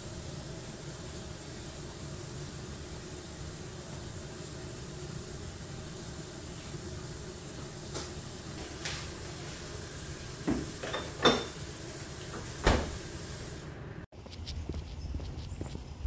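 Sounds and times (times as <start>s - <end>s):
room noise: 0.0s - 16.0s.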